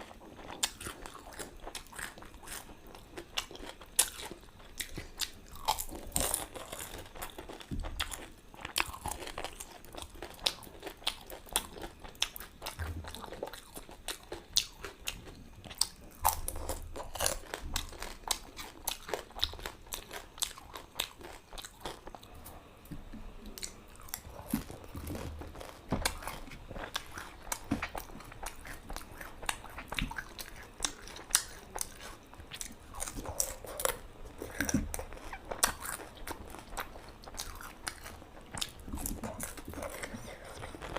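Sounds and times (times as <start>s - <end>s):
chewing: 0.0s - 40.9s.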